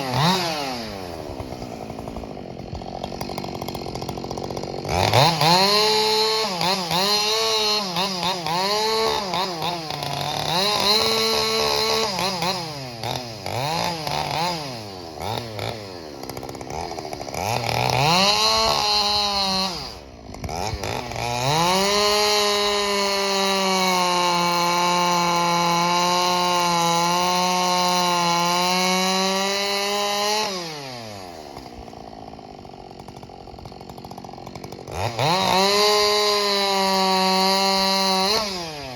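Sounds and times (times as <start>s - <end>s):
chainsaw revving and cutting wood: 0.0s - 38.9s.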